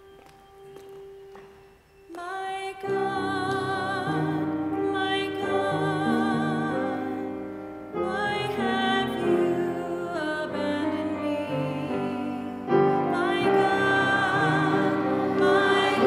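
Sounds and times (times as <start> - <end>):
piano chords: 0.0 - 16.0
sustained melody with vibrato: 0.0 - 16.0.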